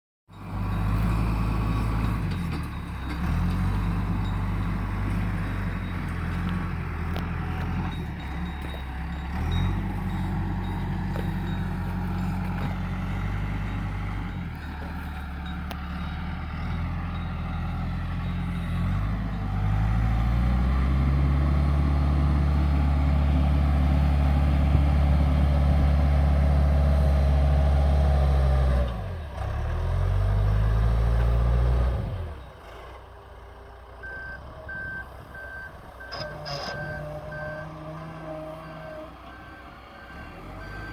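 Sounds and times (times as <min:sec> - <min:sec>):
earth-moving machine engine: 0:00.3 - 0:40.9.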